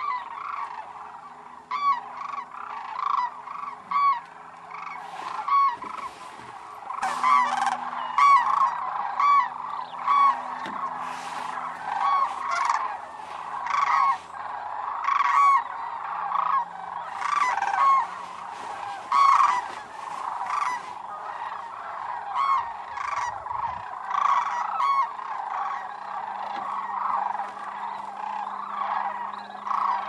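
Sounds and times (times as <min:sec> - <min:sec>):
background chorus of cranes: 0:00.0 - 0:30.0
cranes trumpeting calls: 0:00.0 - 0:30.0.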